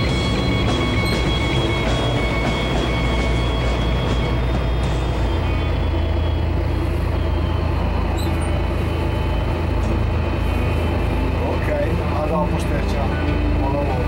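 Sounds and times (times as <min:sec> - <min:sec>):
boat engines humming: 0:00.0 - 0:14.0.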